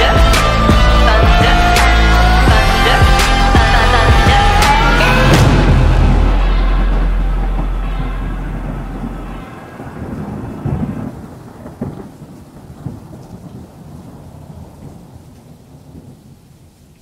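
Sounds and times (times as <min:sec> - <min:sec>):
steady rain: 0:00.0 - 0:17.0
thunder rumbling: 0:00.0 - 0:17.0.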